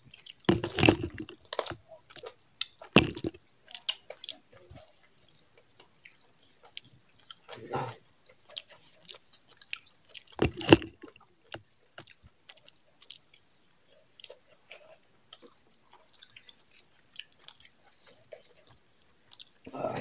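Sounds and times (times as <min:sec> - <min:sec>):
wet chewing and lip smacks: 0:00.0 - 0:19.7.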